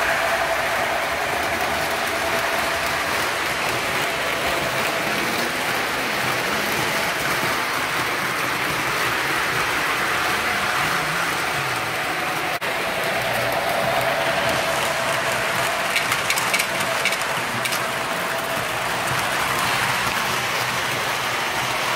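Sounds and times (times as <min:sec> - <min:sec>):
model train wheels clattering: 0:00.0 - 0:21.9.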